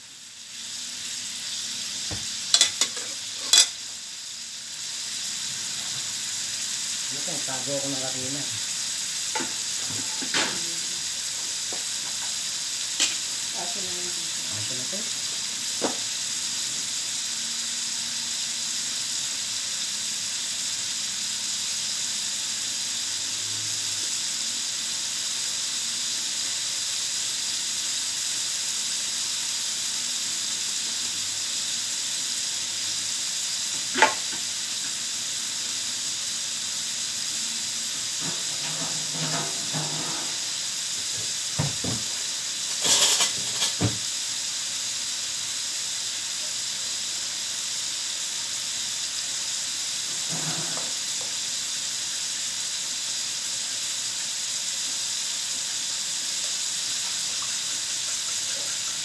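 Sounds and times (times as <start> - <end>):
liver sizzling in oil: 0.0 - 59.0.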